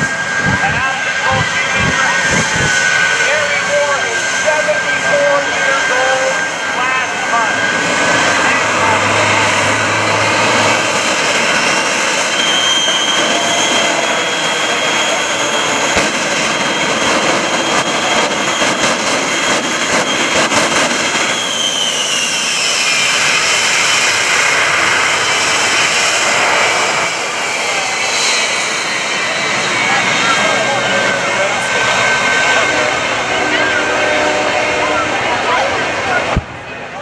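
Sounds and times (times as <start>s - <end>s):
falling whine: 0.0s - 37.0s
jet engine roar: 0.0s - 37.0s.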